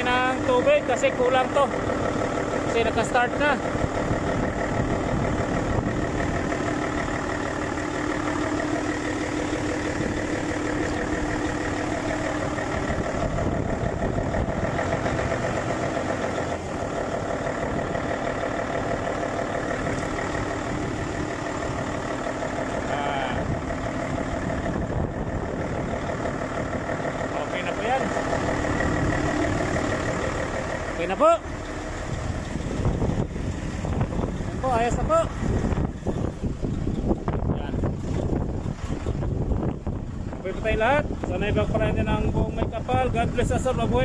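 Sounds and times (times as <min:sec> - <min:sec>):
diesel truck engine idling: 0:00.0 - 0:44.0.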